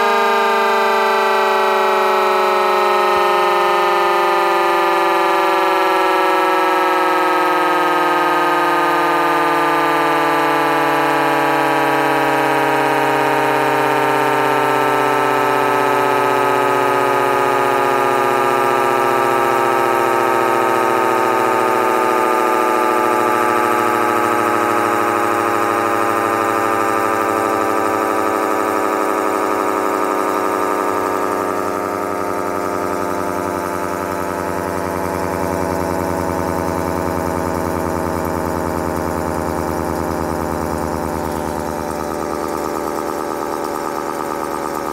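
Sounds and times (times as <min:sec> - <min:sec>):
dual-tone siren winding down: 0:00.0 - 0:44.9.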